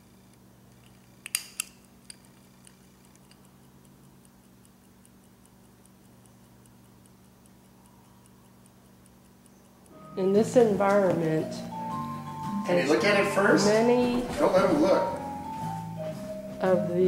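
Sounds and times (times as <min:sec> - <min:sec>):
stopwatch ticking: 0:00.0 - 0:17.0.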